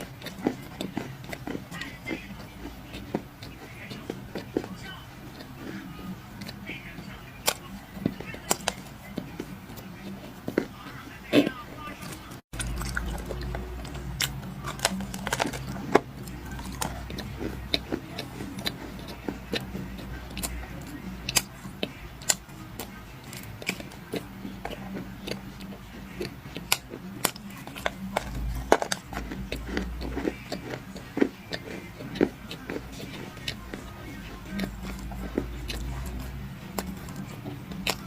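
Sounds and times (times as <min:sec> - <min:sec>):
clay being chewed and crunched: 0:00.0 - 0:38.0.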